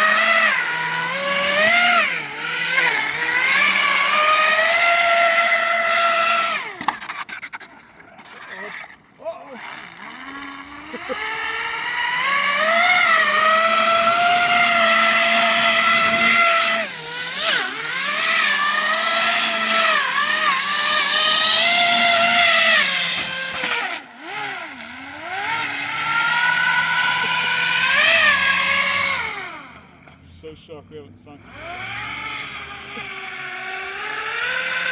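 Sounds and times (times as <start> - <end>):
electric motor and propeller whining: 0.0 - 30.7, 31.3 - 34.9.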